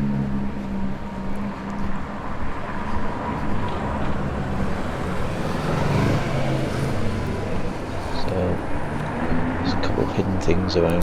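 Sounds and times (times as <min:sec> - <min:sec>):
street rumble: 0:00.0 - 0:11.0
vehicle engine hum: 0:00.0 - 0:11.0.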